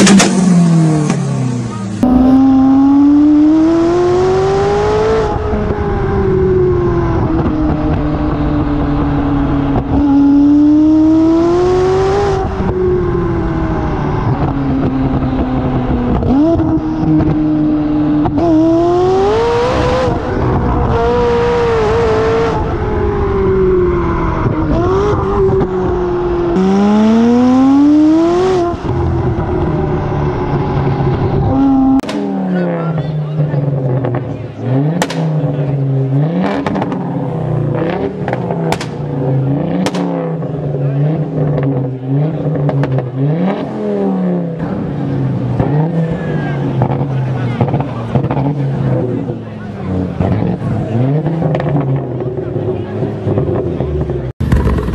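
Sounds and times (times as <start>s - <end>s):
exhaust crack: 0.0s - 3.5s, 12.4s - 54.9s
car engine accelerating: 0.0s - 54.9s.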